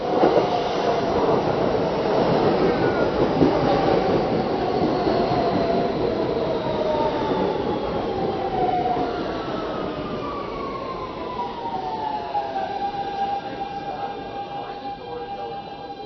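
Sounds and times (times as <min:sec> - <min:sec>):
subway train wheels rumbling: 0:00.0 - 0:16.0.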